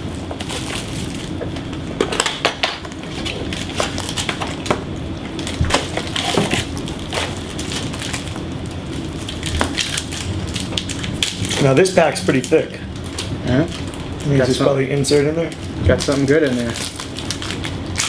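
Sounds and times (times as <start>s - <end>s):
wrapper crinkling and tearing: 0.0s - 1.4s, 2.0s - 4.7s, 5.3s - 18.0s.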